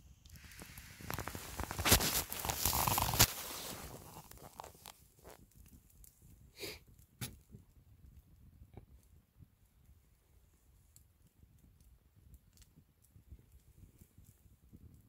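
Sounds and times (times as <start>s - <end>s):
twig fire crackling and popping: 0.0s - 15.0s.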